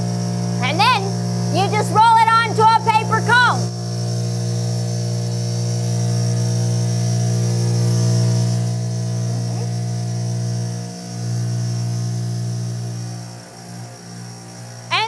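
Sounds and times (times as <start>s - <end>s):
cotton candy machine motor humming: 0.0s - 15.0s.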